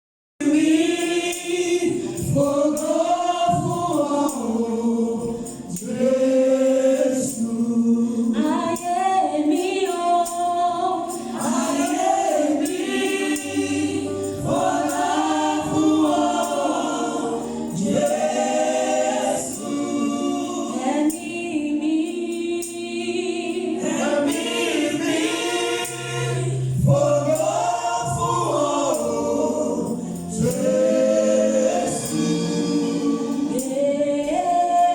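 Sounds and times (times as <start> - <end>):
choir singing: 0.4 - 34.9.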